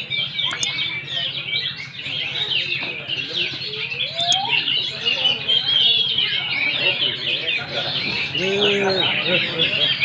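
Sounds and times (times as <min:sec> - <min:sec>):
songbirds chirping and trilling: 0:00.0 - 0:10.0.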